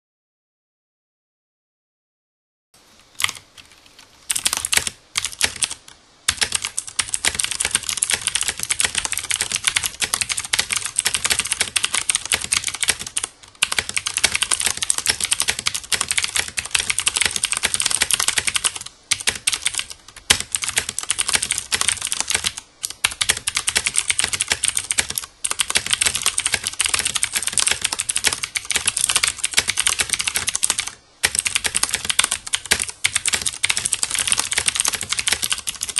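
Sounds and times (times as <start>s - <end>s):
mechanical keyboard typing: 3.2s - 35.9s.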